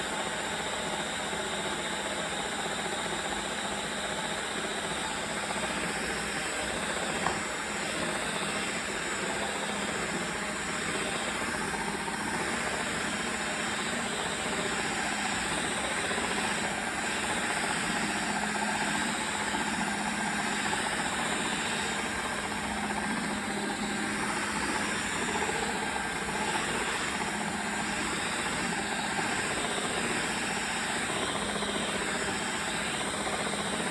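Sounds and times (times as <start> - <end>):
vacuum cleaner motor whir: 0.0 - 33.9.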